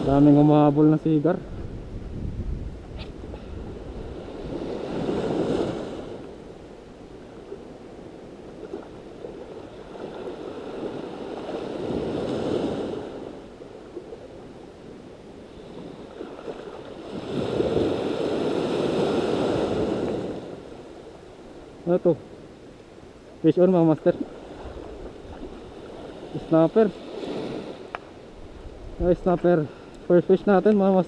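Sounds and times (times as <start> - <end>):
small waves washing on beach: 2.8 - 31.0.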